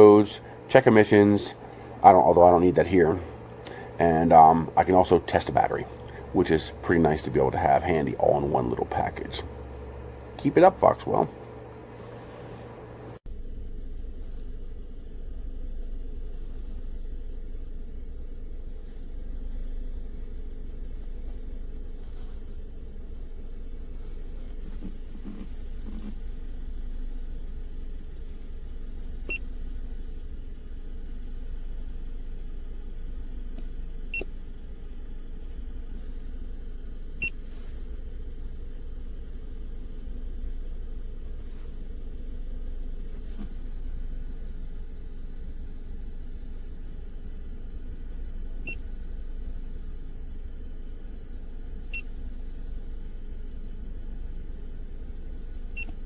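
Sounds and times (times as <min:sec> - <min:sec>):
steady low hum: 0:00.0 - 0:56.0
steady low rumble: 0:00.0 - 0:56.0.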